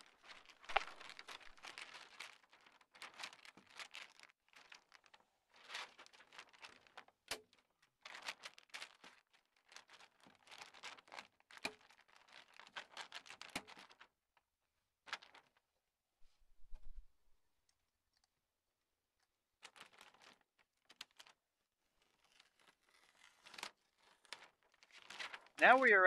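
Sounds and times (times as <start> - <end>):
foil crinkling: 0.0 - 14.2, 15.1 - 15.6, 19.6 - 26.0.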